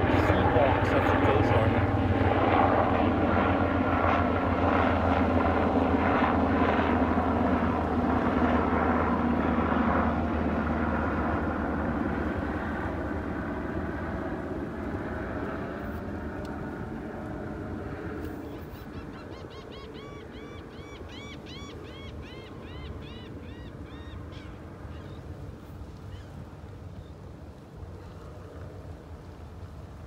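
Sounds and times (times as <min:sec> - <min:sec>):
engine drone: 0:00.0 - 0:25.1.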